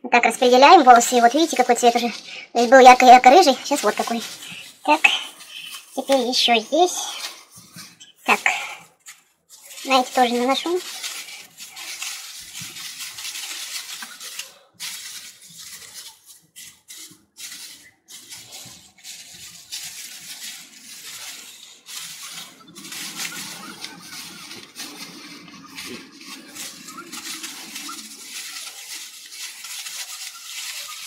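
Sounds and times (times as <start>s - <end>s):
wet rubbing of hair: 0.5s - 31.0s.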